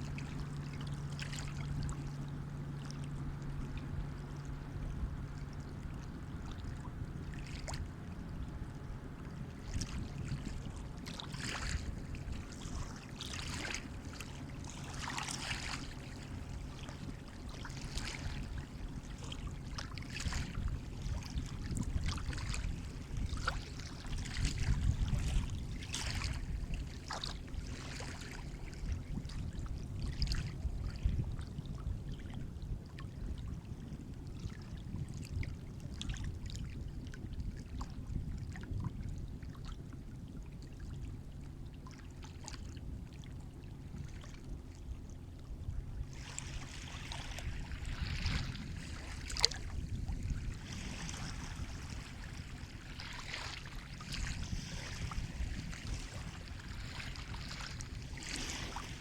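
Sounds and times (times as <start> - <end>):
sea water splashing: 0.0 - 31.4, 34.3 - 59.0
low rumble of surf: 0.0 - 59.0.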